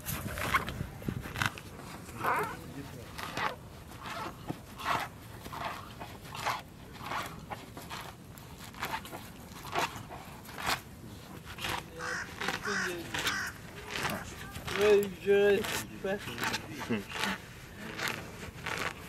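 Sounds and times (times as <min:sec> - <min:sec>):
rhinoceros tearing grass: 0:00.0 - 0:19.0.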